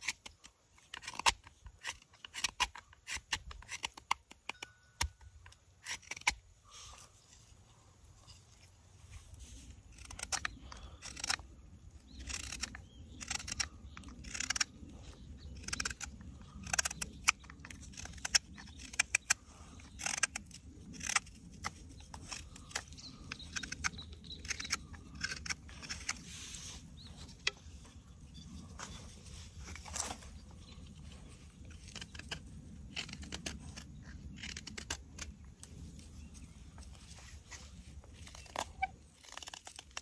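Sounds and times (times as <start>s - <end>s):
knife scraping wood: 0.0s - 4.6s, 5.4s - 36.0s.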